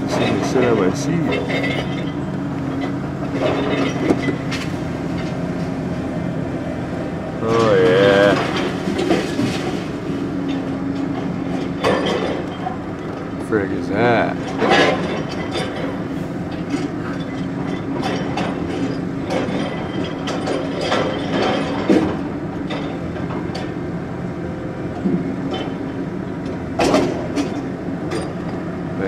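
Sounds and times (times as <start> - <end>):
metallic clanks and knocks: 0.0 - 5.8, 7.4 - 13.4, 14.2 - 23.8, 25.0 - 28.6.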